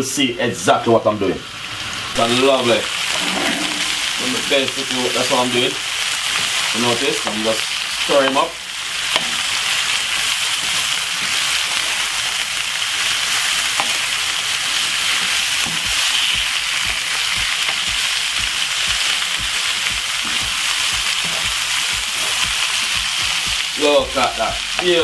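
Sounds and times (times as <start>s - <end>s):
vegetables sizzling in a frying pan: 0.0s - 25.0s.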